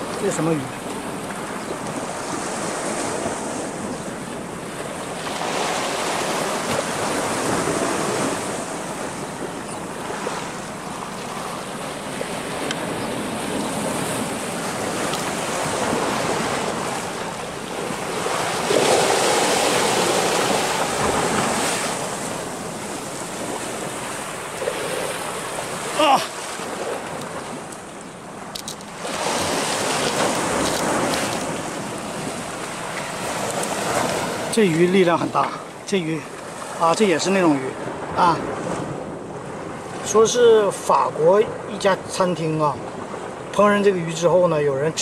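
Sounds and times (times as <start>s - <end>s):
sea waves breaking on rocks: 0.0s - 44.3s.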